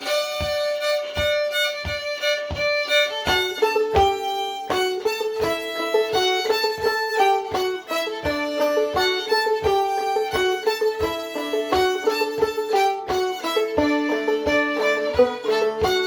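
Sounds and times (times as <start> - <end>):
banjo strokes: 0.0 - 16.0
fiddle bowing long notes: 0.0 - 16.0.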